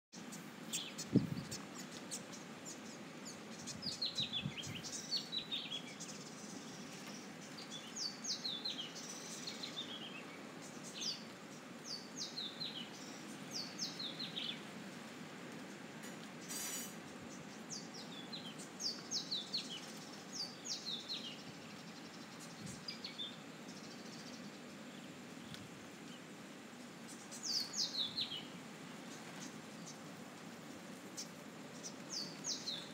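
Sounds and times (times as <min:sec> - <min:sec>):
bird chirping: 0:00.2 - 0:14.7, 0:16.4 - 0:26.3, 0:27.0 - 0:32.9.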